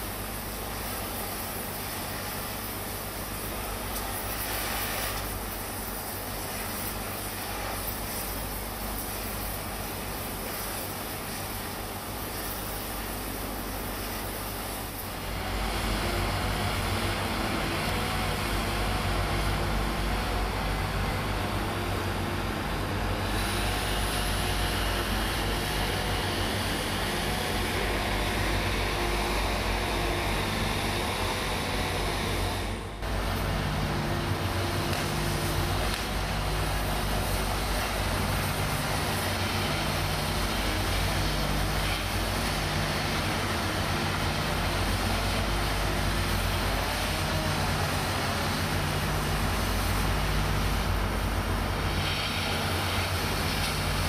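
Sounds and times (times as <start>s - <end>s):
broad hiss: 0.0s - 54.0s.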